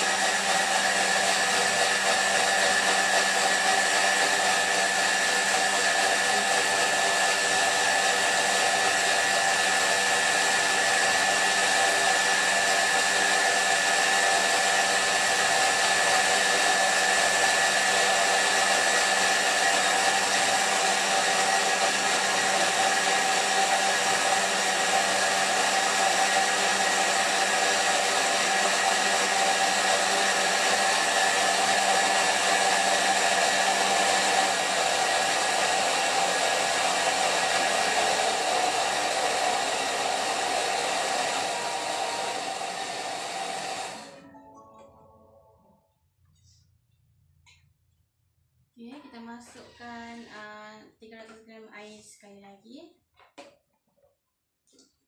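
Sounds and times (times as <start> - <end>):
blender motor whine: 0.0 - 44.3.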